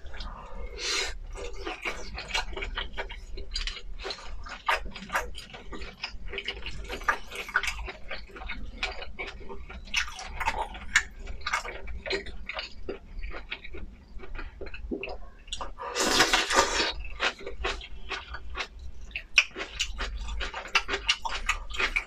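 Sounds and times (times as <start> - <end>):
wet chewing and mouth smacks: 0.0 - 22.0.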